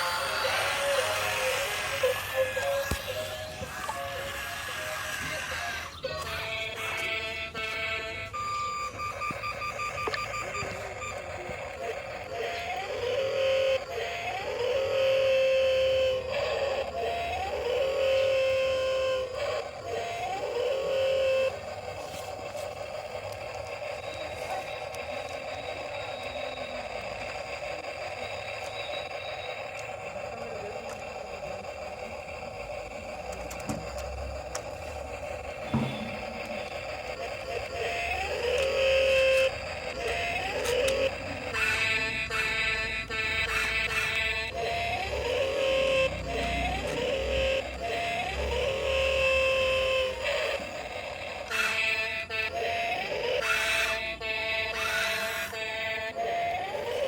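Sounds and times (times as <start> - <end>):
small electric motor rattling: 0.0 - 8.3, 10.8 - 57.0
rapid electronic beeping: 0.0 - 57.0.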